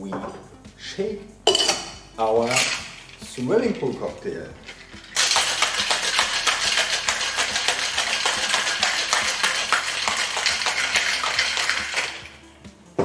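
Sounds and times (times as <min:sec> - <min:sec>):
ice rattling in cocktail shaker: 0:01.5 - 0:12.4.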